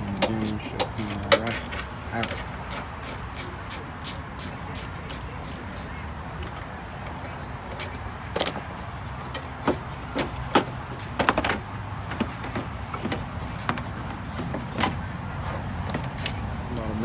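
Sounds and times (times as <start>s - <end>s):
engine parts clicking and knocking: 0.0s - 17.0s.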